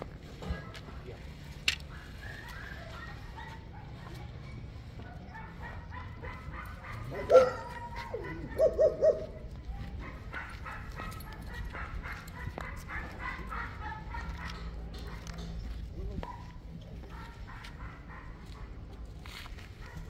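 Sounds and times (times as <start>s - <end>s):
dog barking: 1.9s - 18.9s, 19.8s - 20.0s.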